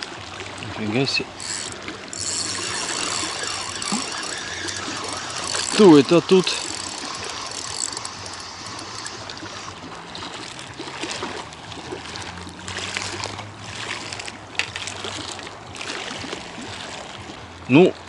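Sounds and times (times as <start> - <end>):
small waves lapping against concrete: 0.0 - 18.0.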